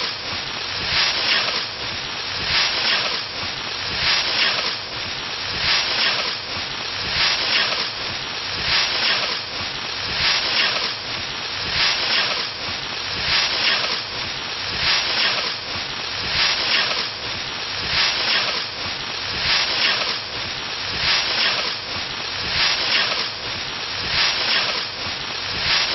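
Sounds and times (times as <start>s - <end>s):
scythe swishing through wheat: 0.0s - 25.9s.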